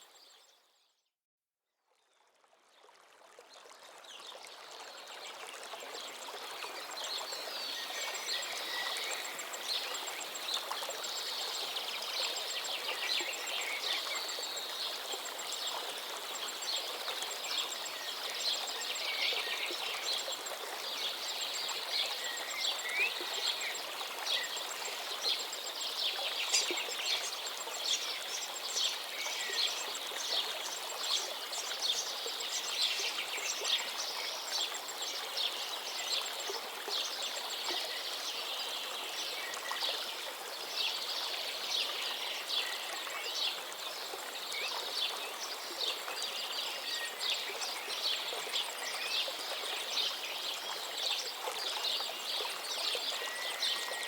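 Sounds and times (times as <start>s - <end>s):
flowing stream: 1.9s - 54.0s.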